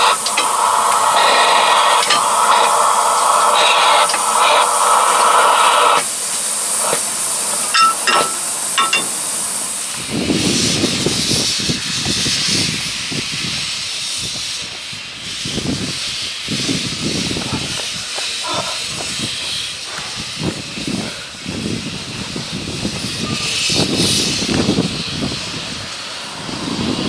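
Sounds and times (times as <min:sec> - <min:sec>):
locomotive steam hissing: 0:00.0 - 0:27.0.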